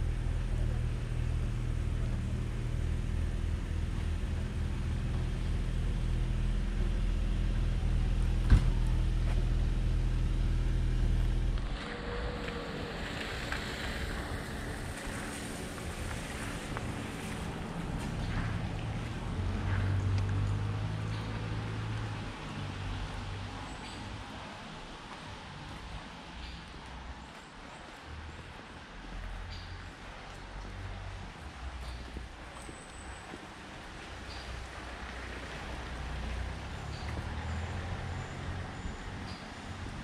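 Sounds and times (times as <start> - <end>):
low engine hum: 0.0 - 40.0.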